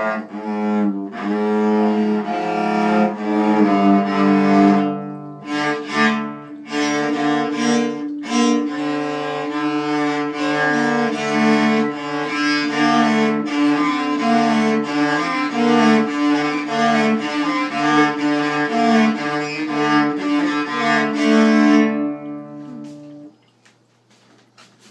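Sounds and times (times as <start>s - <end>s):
bowed cello-like string melody: 0.0s - 23.4s.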